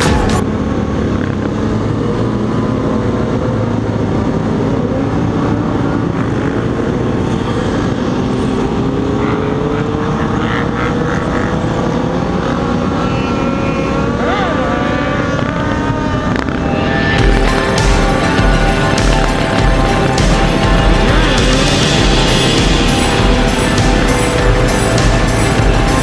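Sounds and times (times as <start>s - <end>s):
motorcycle engines running: 0.0s - 26.0s.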